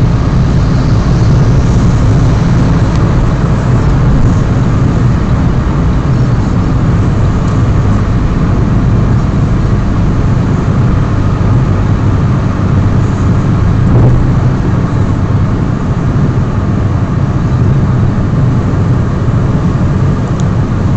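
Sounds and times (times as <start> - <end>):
car engine and tyre rumble: 0.0 - 20.9.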